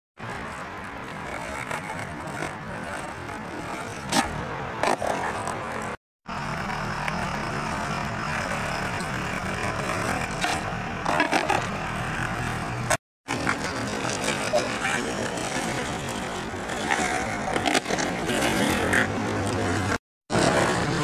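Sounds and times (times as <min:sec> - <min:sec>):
skateboard popping and landing: 0:00.2 - 0:06.0, 0:08.4 - 0:21.0
skateboard wheels rolling on asphalt: 0:00.2 - 0:21.0.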